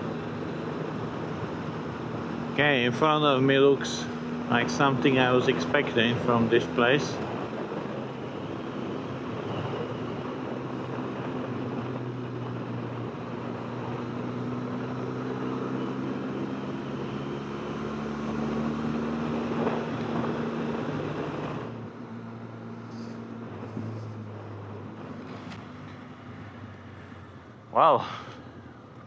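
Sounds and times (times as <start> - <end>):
wind and road rush: 0.0 - 29.0.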